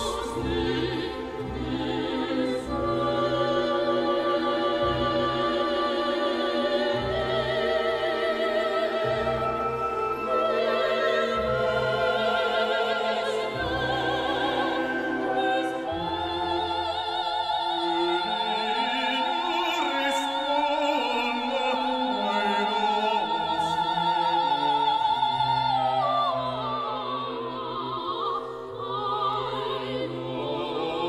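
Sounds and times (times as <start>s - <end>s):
operatic singing: 0.0s - 31.0s
orchestra: 0.0s - 31.0s.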